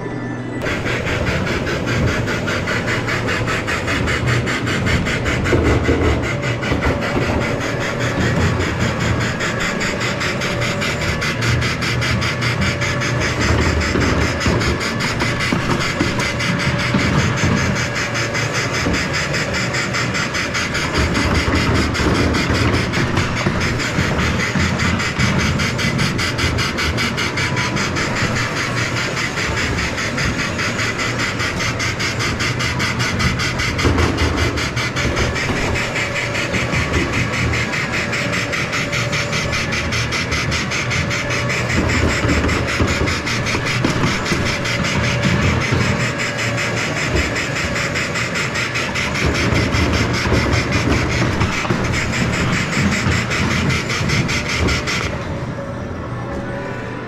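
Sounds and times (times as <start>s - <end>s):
kiddie train ride rumbling: 0.0s - 57.0s
fast even clatter: 0.6s - 55.3s.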